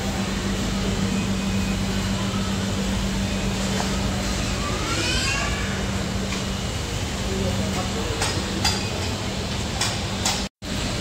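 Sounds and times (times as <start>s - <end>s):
refrigeration and air conditioning hum: 0.0s - 11.0s.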